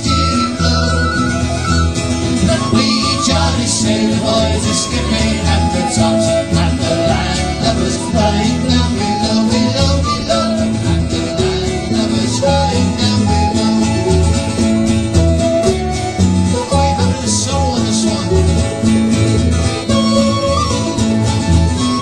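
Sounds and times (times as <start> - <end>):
folk band playing a sea shanty: 0.0 - 22.0.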